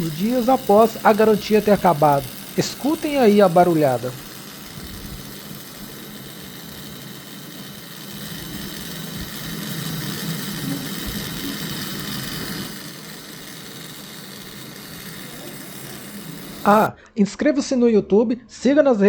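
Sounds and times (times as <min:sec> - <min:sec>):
computer fans whirring drone: 0:00.0 - 0:16.9.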